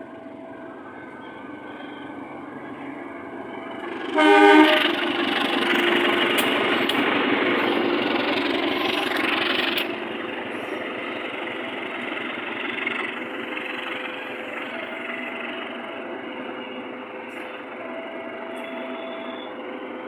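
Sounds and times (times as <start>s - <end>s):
diesel train engine rumbling: 0.0s - 20.0s.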